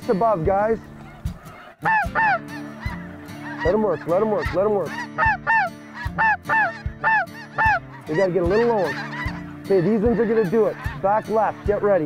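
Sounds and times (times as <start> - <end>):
geese honking: 0.3 - 12.0.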